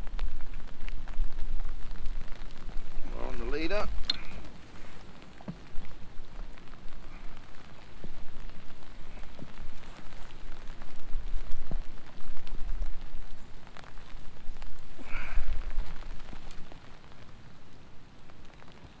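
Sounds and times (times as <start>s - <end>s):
rain on water: 0.0s - 19.0s.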